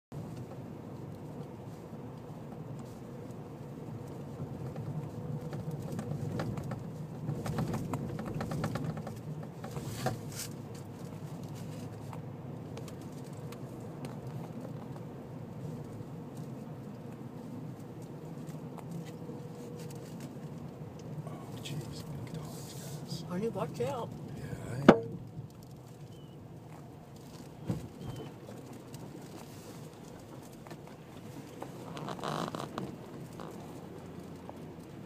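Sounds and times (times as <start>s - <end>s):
ticks and patter on car: 0.2s - 35.0s.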